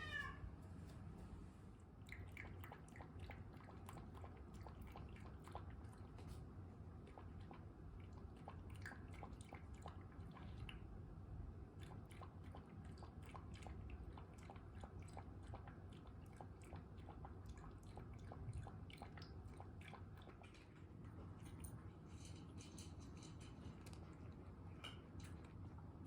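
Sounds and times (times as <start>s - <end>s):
cat eating wet clicks: 1.9s - 26.0s.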